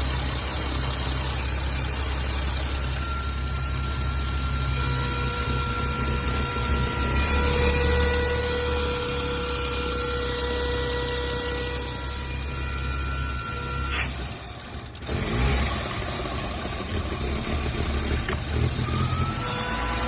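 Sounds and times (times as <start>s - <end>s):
air intake whine: 0.0s - 20.0s
car engine idling: 0.0s - 20.0s.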